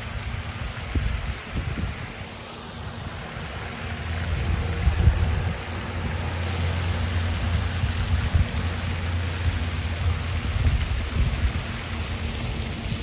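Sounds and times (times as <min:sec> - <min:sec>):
wind buffeting microphone: 0:00.0 - 0:02.3, 0:03.0 - 0:13.0.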